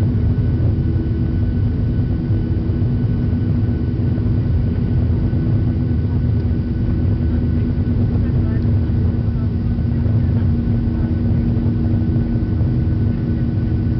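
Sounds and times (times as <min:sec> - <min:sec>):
jet engine drone: 0:00.0 - 0:13.9.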